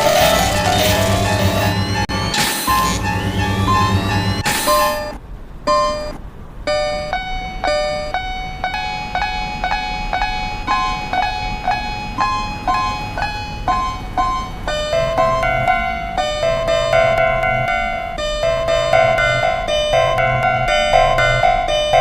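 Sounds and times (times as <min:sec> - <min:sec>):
keyboard playing repeated notes: 0:00.0 - 0:22.0.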